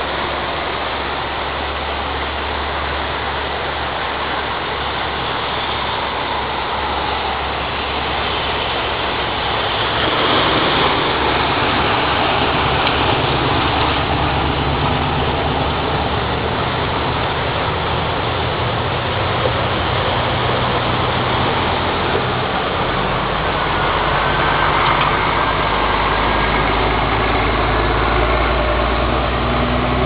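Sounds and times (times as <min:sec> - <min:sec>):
floodwater rushing: 0:00.0 - 0:30.0
truck engine: 0:00.0 - 0:30.0.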